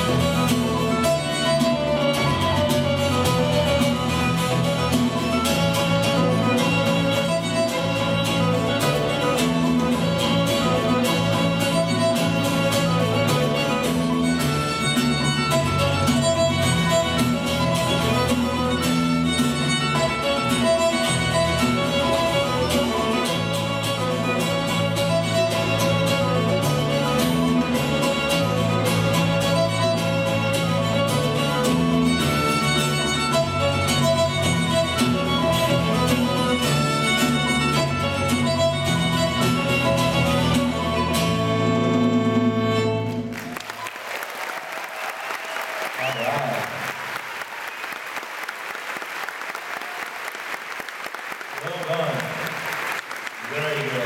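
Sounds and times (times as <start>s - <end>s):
fiddle music: 0.0s - 43.9s
guitar accompaniment: 0.0s - 44.0s.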